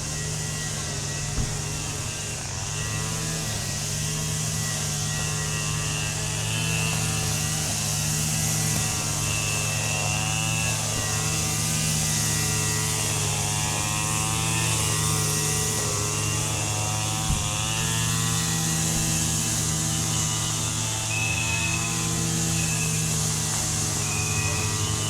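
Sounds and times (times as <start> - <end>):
engine hum: 0.0 - 25.0.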